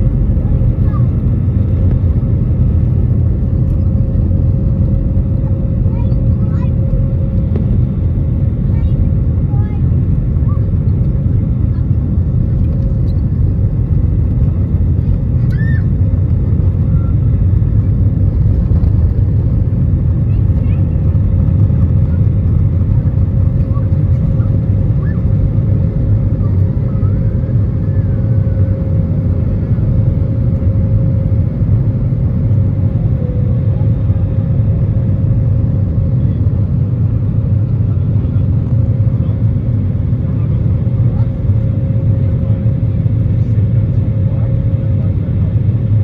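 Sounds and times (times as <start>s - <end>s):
jet engines roaring at takeoff: 0.0s - 46.0s.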